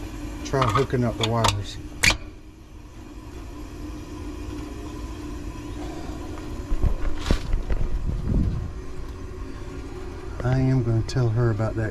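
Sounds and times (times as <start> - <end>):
compressor humming: 0.0 - 11.9.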